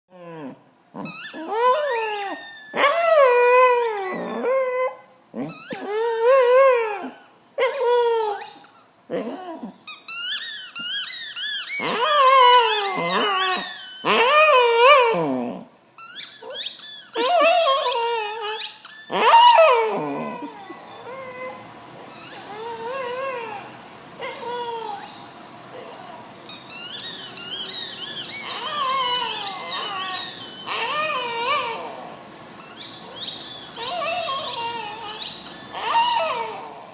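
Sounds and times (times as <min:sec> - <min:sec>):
squeaky toy squealing: 0:01.0 - 0:04.6, 0:05.4 - 0:08.9, 0:09.9 - 0:15.2, 0:16.0 - 0:32.0, 0:32.6 - 0:36.8.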